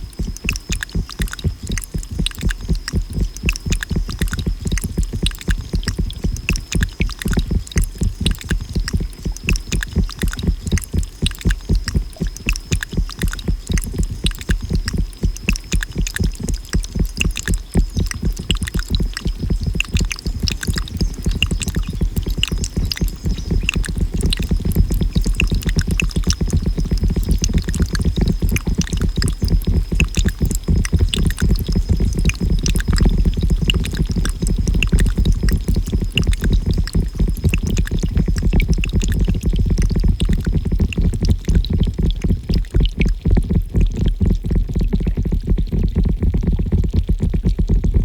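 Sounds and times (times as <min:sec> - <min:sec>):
fine crackling clicks: 0:00.1 - 0:41.8.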